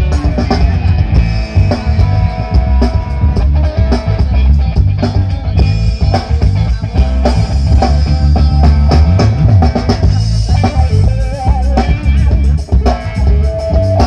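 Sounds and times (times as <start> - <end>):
loud rock music over pa: 0.0 - 14.0.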